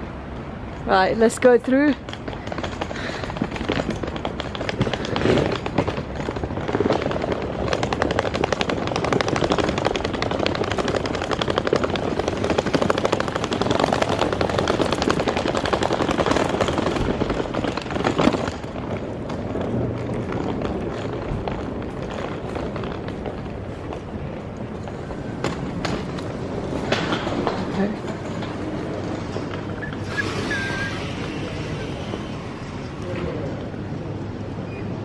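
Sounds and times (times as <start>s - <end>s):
suitcase wheels rattling on floor: 1.6s - 33.1s.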